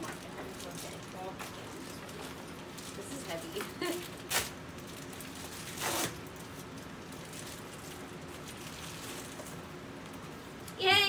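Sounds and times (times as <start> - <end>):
faint steady hum: 0.0 - 11.0
plastic bag tearing: 0.1 - 9.7.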